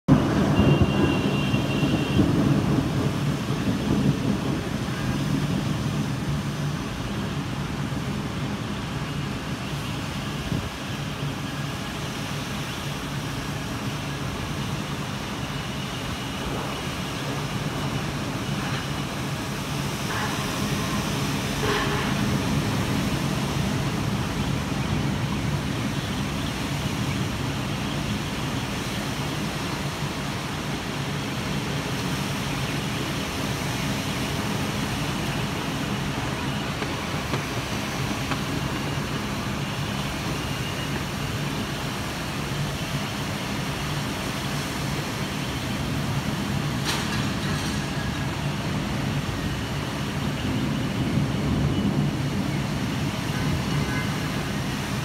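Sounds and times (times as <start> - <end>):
heavy rain pouring: 0.1 - 55.0.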